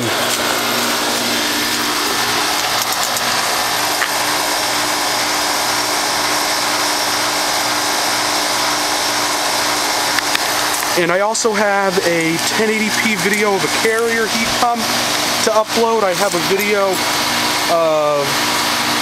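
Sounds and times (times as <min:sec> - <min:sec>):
compressor humming: 0:00.0 - 0:19.0
condenser fan rushing: 0:00.0 - 0:19.0.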